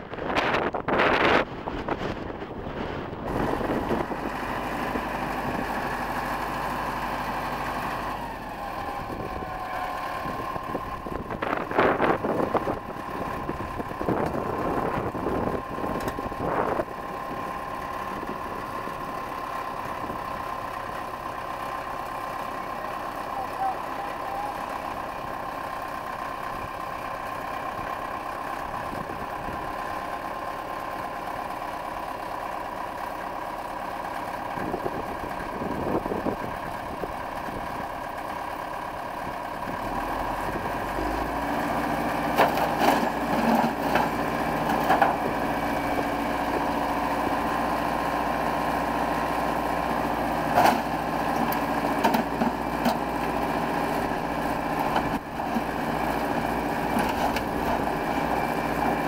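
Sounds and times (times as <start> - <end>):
wheel loader engine running: 0.0 - 59.0.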